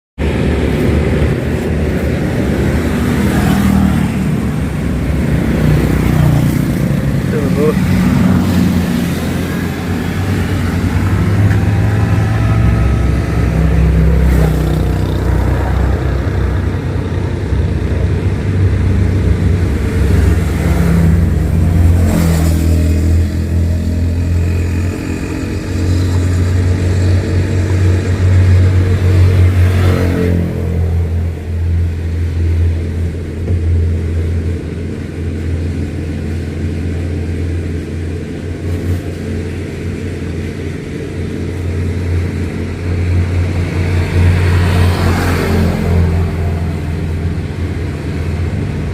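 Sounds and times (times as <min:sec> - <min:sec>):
vehicle engine running: 0:00.2 - 0:48.9.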